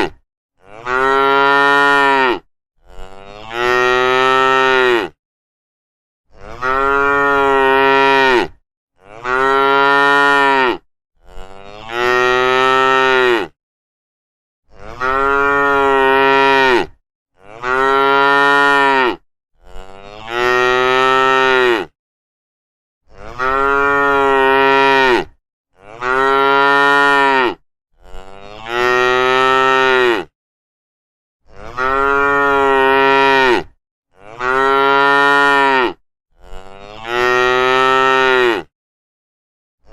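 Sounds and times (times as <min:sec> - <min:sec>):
cows mooing: 0:00.6 - 0:05.2, 0:06.4 - 0:13.5, 0:14.8 - 0:21.9, 0:23.2 - 0:30.3, 0:31.6 - 0:38.7.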